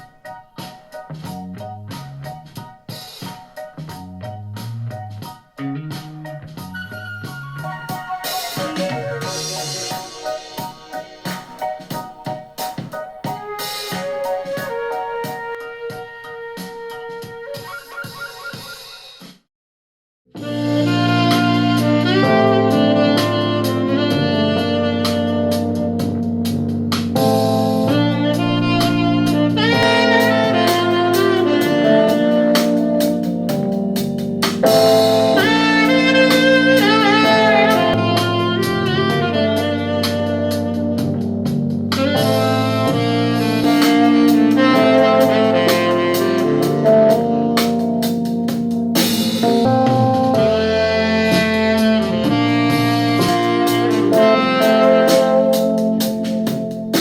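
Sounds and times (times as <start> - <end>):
jazz music through speaker: 0.0 - 19.3, 20.4 - 57.0.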